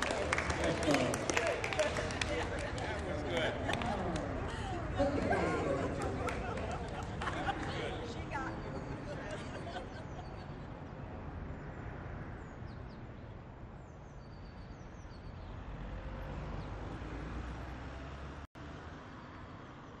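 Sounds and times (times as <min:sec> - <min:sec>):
distant traffic hum: 0:00.0 - 0:20.0.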